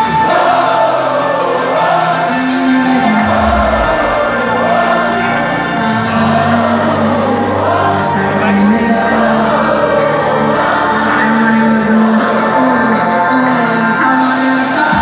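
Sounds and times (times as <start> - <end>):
live pop concert music: 0.0 - 15.0
people singing: 0.0 - 15.0.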